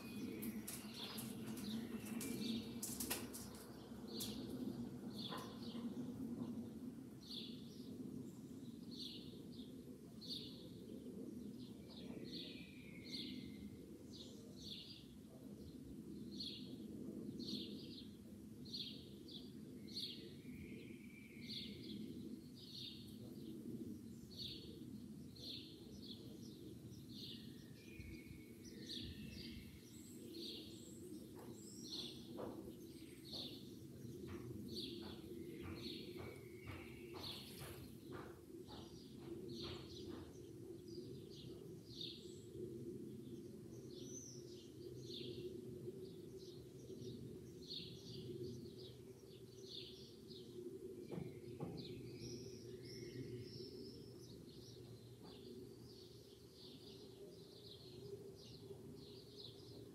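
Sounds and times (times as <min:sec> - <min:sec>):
low outdoor hum: 0:00.0 - 0:59.9.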